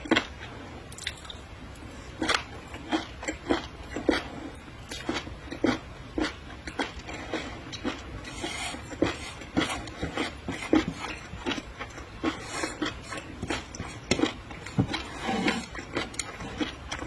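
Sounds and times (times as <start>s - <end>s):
wet chewing and mouth smacking: 2.2s - 8.3s, 8.9s - 17.0s.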